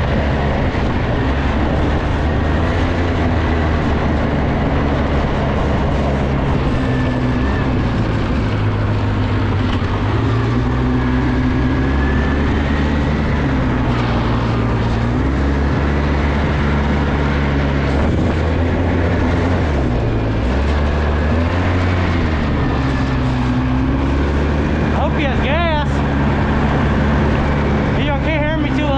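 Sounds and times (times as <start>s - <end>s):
off-road vehicle engine running: 0.0s - 28.9s.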